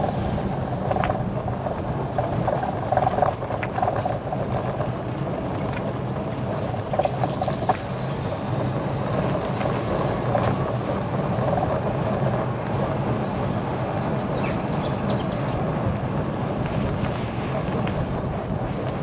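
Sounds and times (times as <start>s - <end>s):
bicycle tyres rolling on tarmac: 0.0s - 19.0s
wind buffeting microphone: 0.0s - 19.0s.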